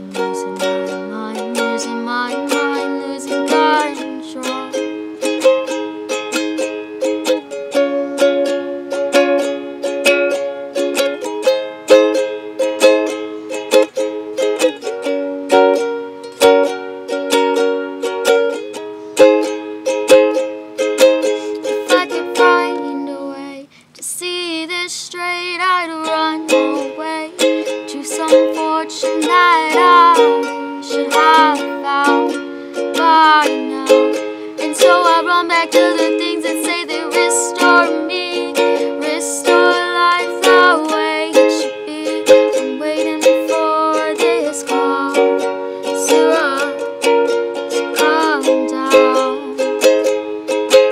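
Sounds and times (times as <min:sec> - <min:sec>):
person singing: 0:00.0 - 0:11.5, 0:21.0 - 0:50.9
ukulele strumming chords: 0:00.0 - 0:50.9.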